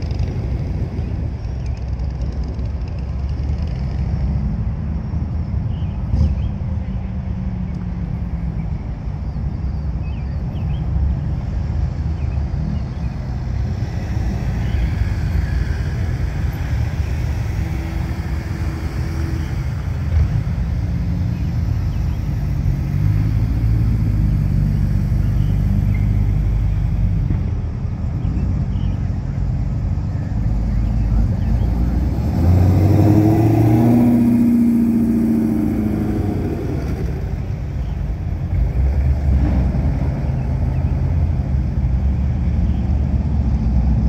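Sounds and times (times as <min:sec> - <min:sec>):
cars driving slowly past: 0:00.0 - 0:44.0.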